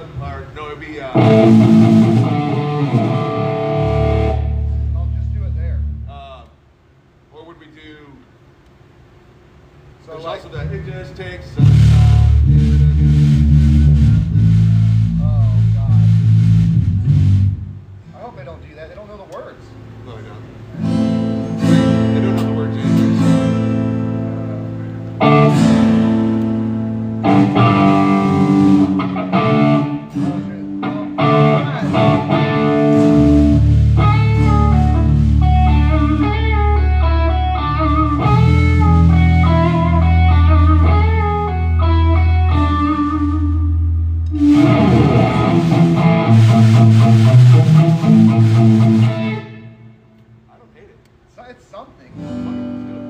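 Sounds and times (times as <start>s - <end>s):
guitar playing: 1.1s - 6.1s, 11.6s - 18.2s, 19.7s - 50.4s, 52.1s - 53.0s.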